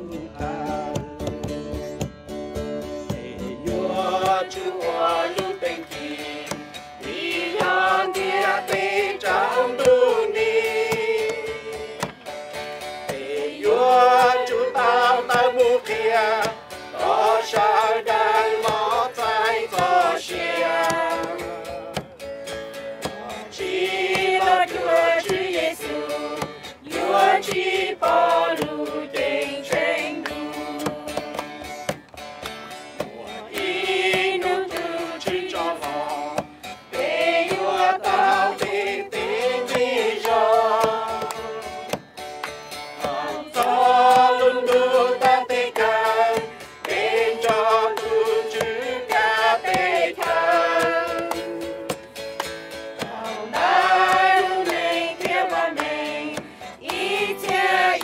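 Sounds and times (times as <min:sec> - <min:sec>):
group singing worship song: 0:00.0 - 0:01.8, 0:03.0 - 0:32.0, 0:32.9 - 0:58.0
strummed acoustic guitar: 0:00.0 - 0:58.0.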